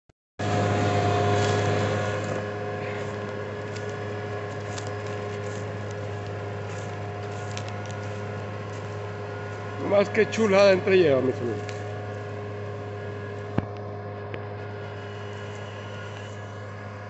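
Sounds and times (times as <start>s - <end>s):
tractor diesel engine under load: 0.4s - 17.0s.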